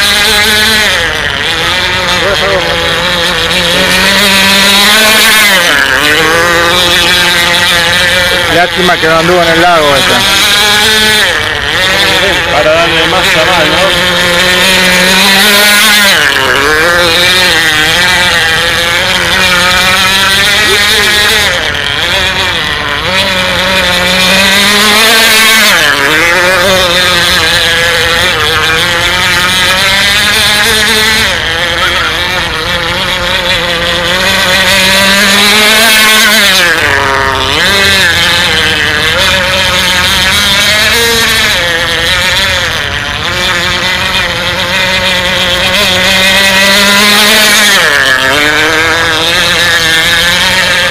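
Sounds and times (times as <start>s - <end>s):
model boat engine high-pitched: 0.0s - 50.9s.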